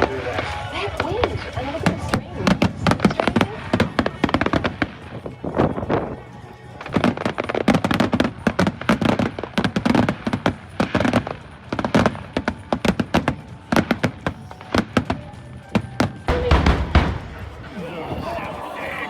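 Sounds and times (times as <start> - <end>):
fireworks cracks and bangs: 0.0 - 6.2, 6.8 - 17.8.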